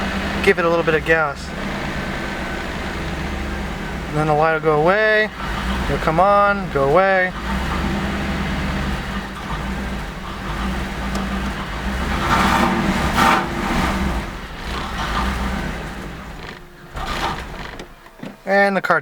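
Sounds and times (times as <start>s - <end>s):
engine running rough and misfiring: 0.0s - 18.4s.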